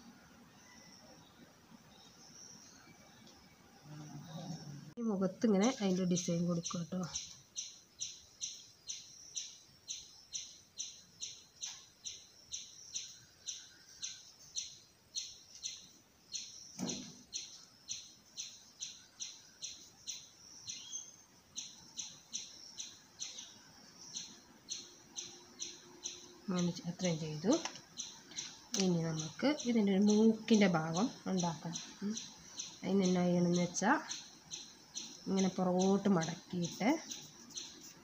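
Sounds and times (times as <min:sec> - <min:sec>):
bird chirping: 0:00.0 - 0:38.0.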